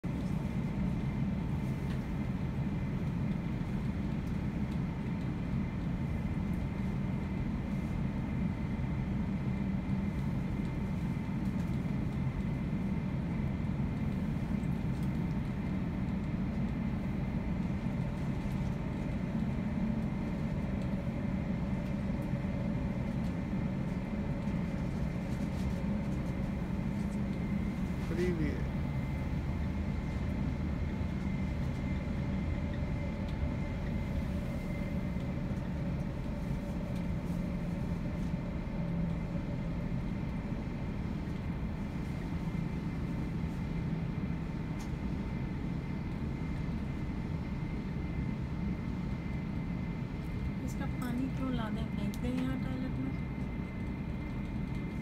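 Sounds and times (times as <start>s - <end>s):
train running rumble: 0.0s - 55.0s.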